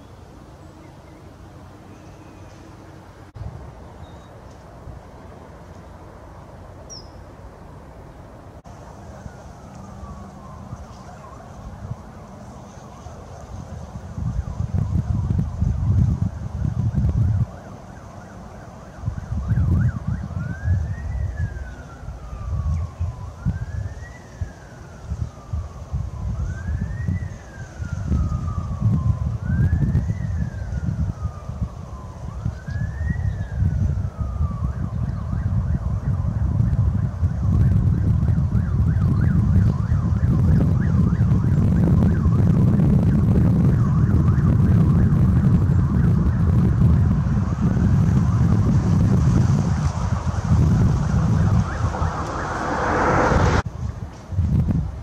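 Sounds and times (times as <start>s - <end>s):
wind buffeting microphone: 8.6s - 55.0s
siren wailing: 8.8s - 53.7s.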